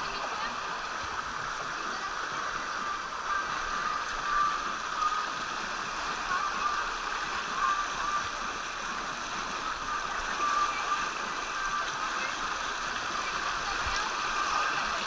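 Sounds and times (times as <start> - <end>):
water rushing down slide chute: 0.0 - 15.0.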